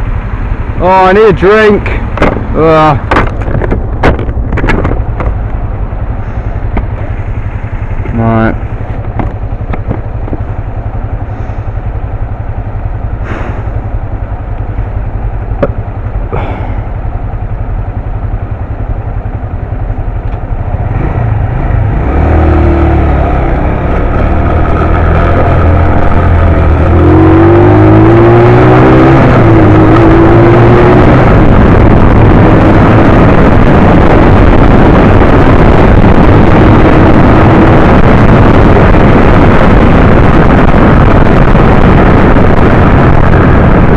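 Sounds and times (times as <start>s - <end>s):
wind rushing over microphone: 0.0s - 17.0s, 19.3s - 43.9s
motorcycle engine accelerating: 0.0s - 43.9s.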